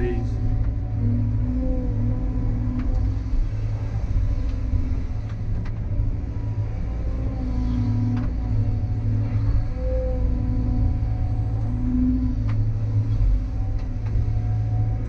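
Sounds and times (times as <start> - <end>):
excavator diesel engine running: 0.0 - 15.0
hydraulics working: 0.0 - 15.0.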